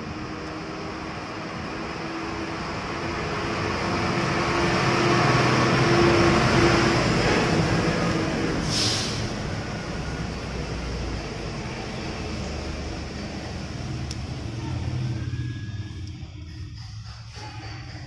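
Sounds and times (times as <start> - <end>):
traffic passing by: 0.0 - 18.0.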